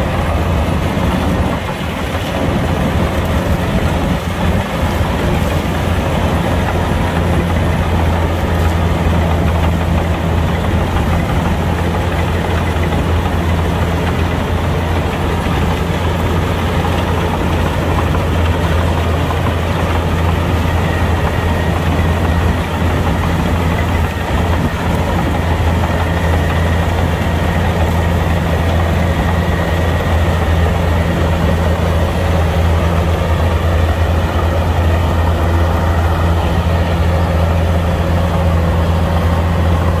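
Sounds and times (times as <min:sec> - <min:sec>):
diesel engine droning: 0:00.0 - 0:40.0.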